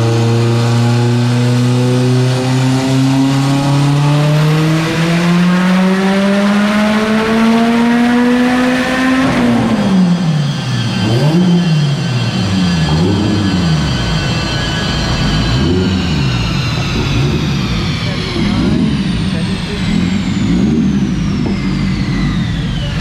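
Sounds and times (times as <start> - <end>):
turbocharged car engine revving: 0.0 - 23.0.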